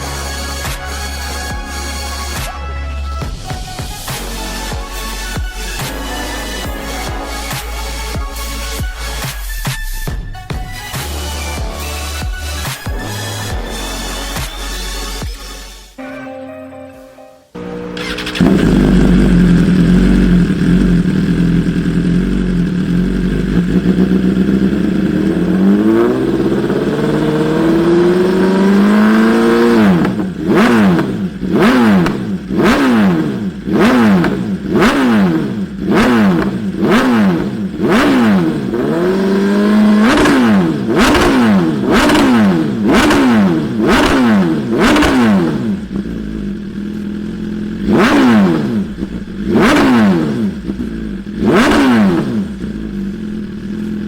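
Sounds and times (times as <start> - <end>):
motorcycle engine revving: 0.0 - 15.6, 17.6 - 54.0.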